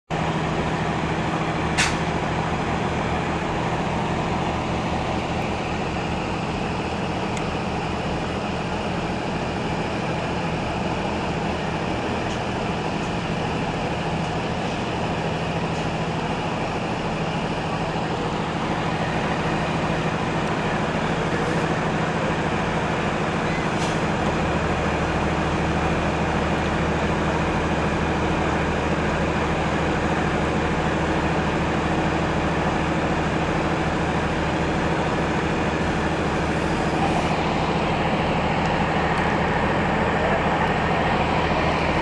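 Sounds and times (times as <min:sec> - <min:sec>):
diesel engines idling: 0:00.1 - 0:42.0.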